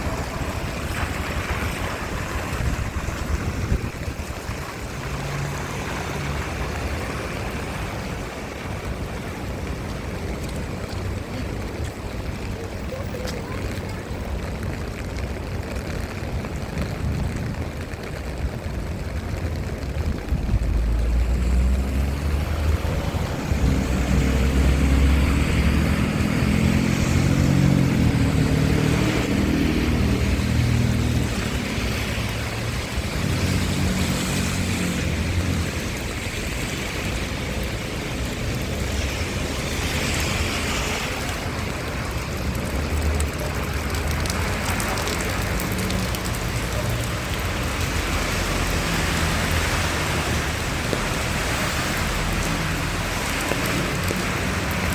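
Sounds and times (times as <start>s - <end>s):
steady rain on street: 0.0s - 54.9s
vehicle engine rumbling: 0.0s - 54.9s.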